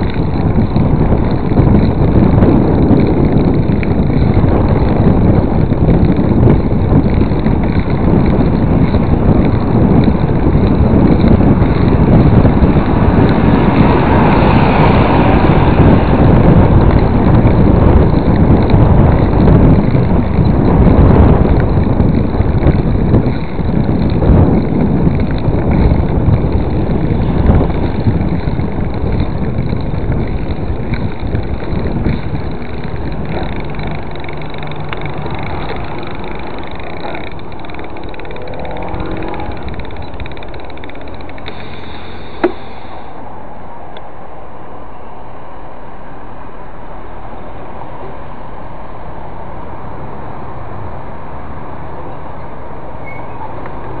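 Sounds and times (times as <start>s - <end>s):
tyre rumble on road: 0.0s - 43.2s
wind rushing over microphone: 0.0s - 54.0s.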